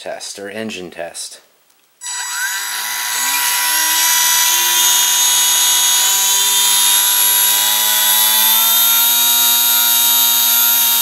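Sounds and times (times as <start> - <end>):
electric motor and propeller whine: 2.0 - 11.0.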